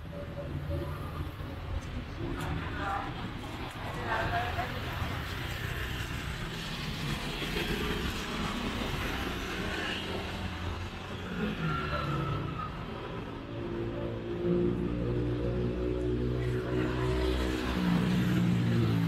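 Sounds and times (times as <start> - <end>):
vehicles passing on street: 0.0 - 19.0.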